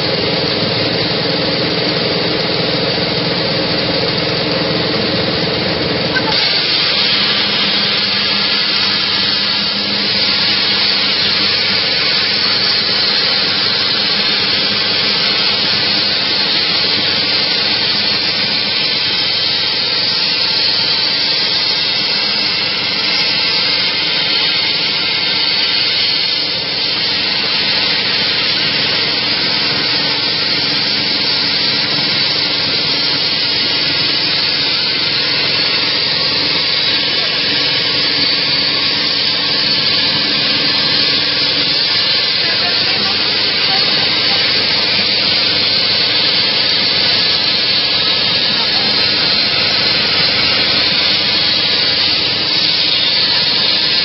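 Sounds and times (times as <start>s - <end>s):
plasma torch hissing: 6.1s - 54.0s.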